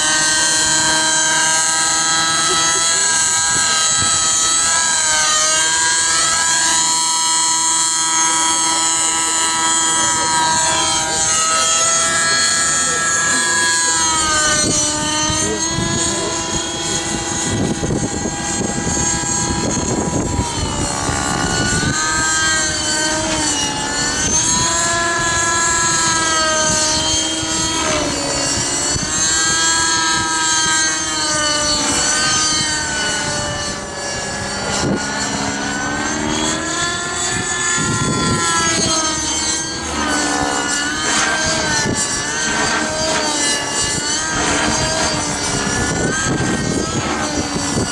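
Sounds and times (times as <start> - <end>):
model helicopter engine and rotors: 0.0 - 47.9
wind buffeting microphone: 0.0 - 47.9.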